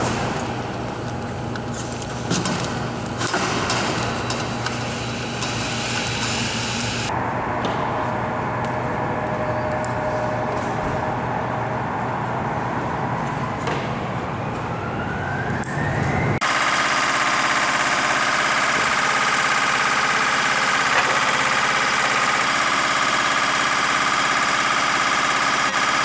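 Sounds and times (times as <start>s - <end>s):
jet engine turbine whine: 0.0s - 26.0s
machinery hum with rising whine: 0.0s - 26.0s.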